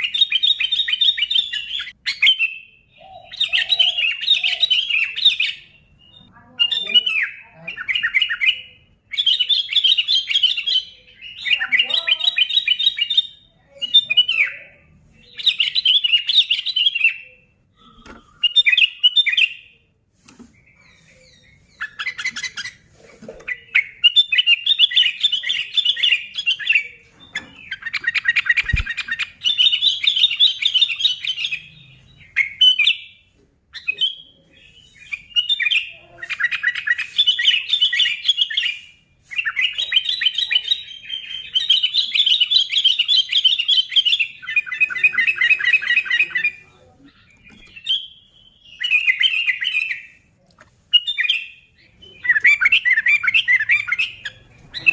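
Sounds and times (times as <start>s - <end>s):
bulbul singing: 0.0s - 54.9s.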